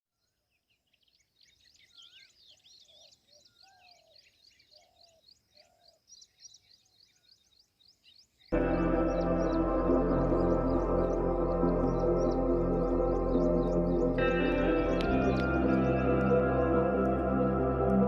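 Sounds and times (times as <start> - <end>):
birds chirping: 0.3 - 18.0.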